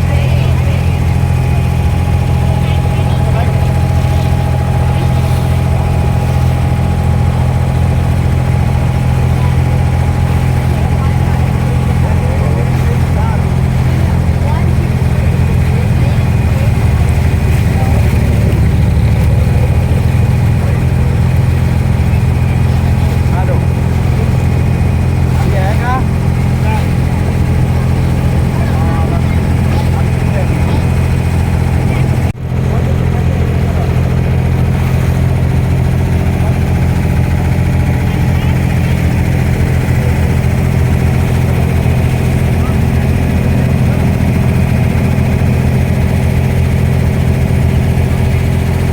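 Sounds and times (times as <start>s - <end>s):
boat diesel engine droning: 0.0s - 48.9s.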